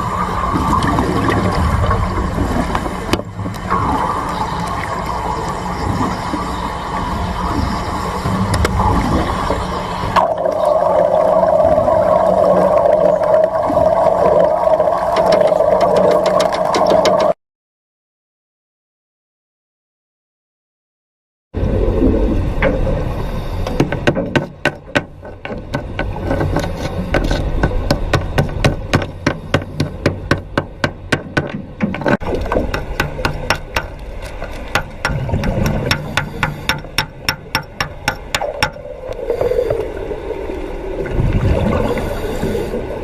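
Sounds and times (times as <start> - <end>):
bubbling water rumble: 0.0 - 17.4, 21.6 - 43.0.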